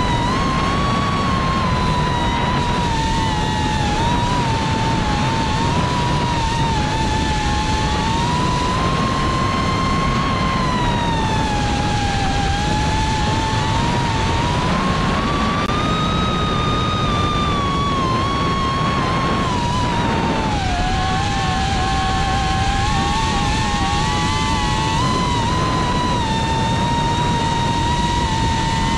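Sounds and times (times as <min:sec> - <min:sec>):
drone propellers whining: 0:00.0 - 0:28.9
low rushing noise: 0:00.0 - 0:28.9.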